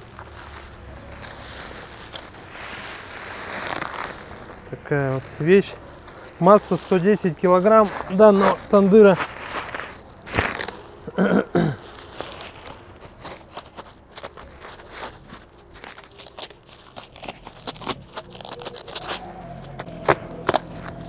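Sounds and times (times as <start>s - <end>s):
bubble wrap crackling: 0.0s - 21.0s.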